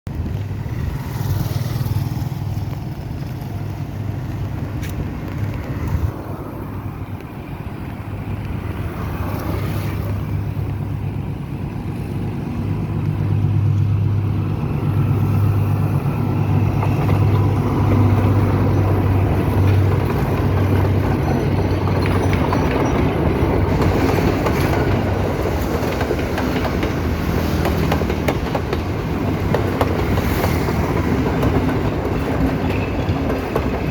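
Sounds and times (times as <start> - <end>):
diesel train engine drone: 0.1 - 33.9
rail and wheel noise: 0.1 - 33.9.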